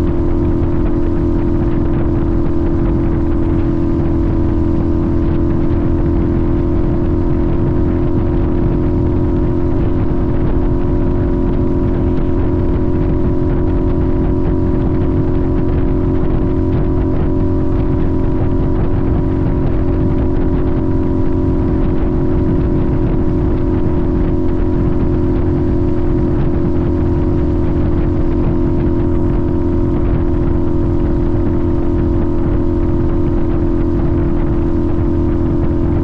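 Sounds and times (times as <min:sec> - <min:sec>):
motorcycle engine running steadily: 0:00.0 - 0:36.0.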